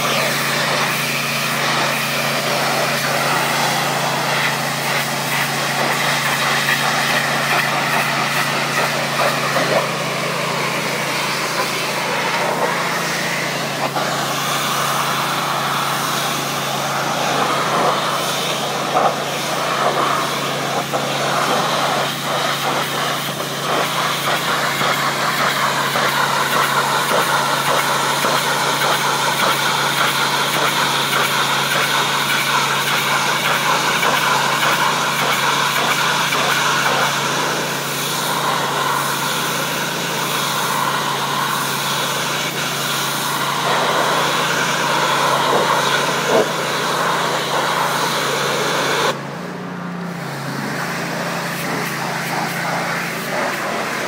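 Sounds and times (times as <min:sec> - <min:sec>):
water jet hissing on stone: 0:00.0 - 0:49.2, 0:50.3 - 0:54.0
pressure washer engine droning: 0:00.0 - 0:54.0.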